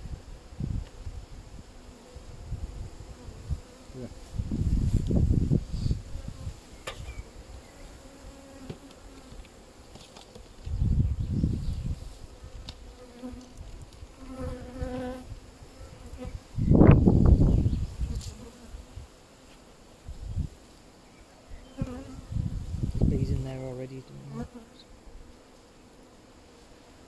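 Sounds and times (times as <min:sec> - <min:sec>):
bee buzzing close by: 0:00.0 - 0:10.0, 0:10.6 - 0:27.0
honeybees buzzing: 0:00.0 - 0:27.0.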